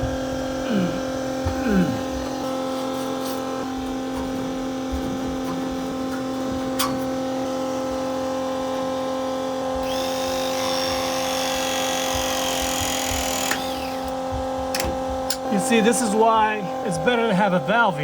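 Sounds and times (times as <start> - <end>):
electric pump humming: 0.0 - 18.0.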